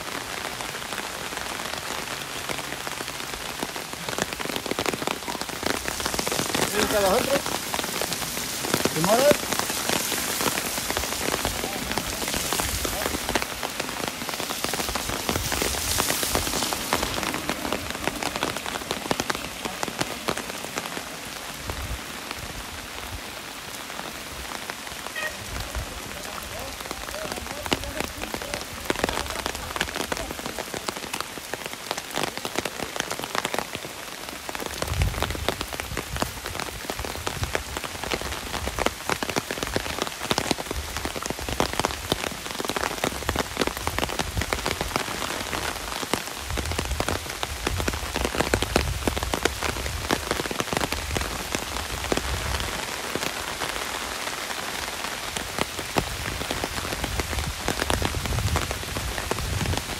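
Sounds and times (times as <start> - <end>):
heavy rain on an umbrella: 0.0 - 59.9.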